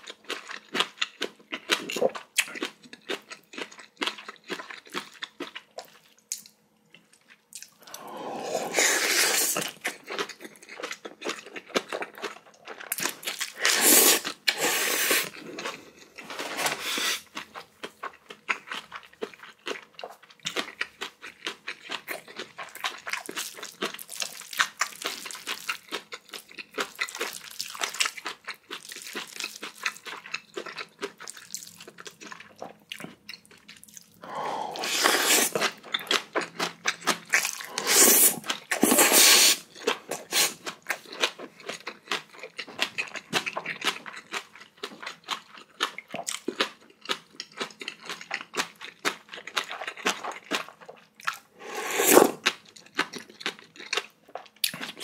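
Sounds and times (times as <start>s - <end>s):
chewing and wet mouth sounds: 0.0s - 16.2s, 16.9s - 55.0s.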